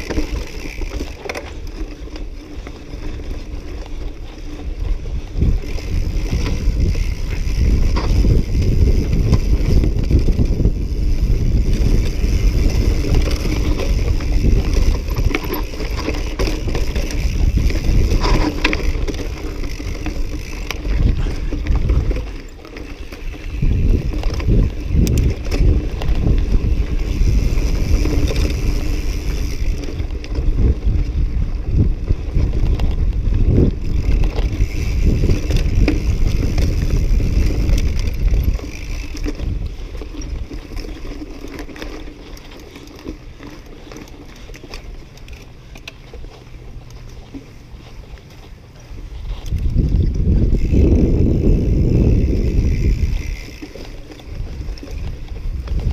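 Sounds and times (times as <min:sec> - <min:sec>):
wind buffeting microphone: 0:00.0 - 0:42.6, 0:48.1 - 0:55.9
bike rattling over bumps: 0:00.0 - 0:55.9
tyres running over dirt: 0:00.0 - 0:55.9.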